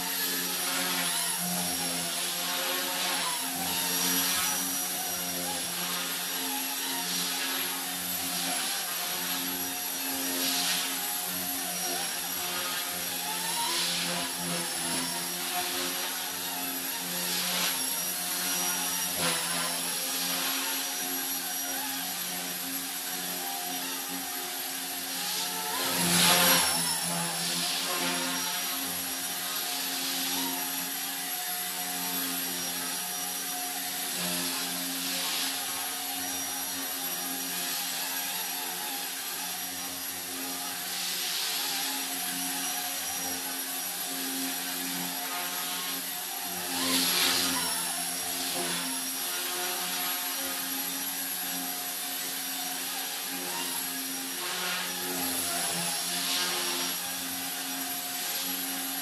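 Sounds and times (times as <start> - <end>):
rc helicopter motor whine: 0.0 - 59.0.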